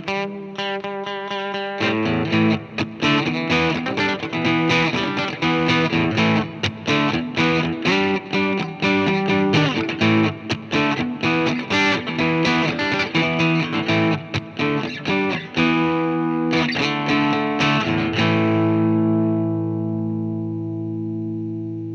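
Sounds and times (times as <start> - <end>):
distorted electric guitar chords: 0.0 - 21.9.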